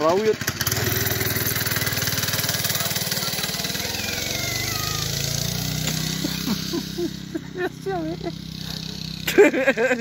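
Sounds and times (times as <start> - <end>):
go-kart engine passing by: 0.0 - 10.0.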